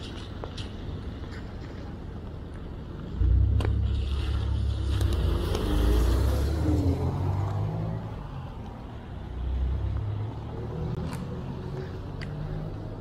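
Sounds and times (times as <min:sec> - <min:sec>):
cars passing on wet street: 0:00.0 - 0:13.0.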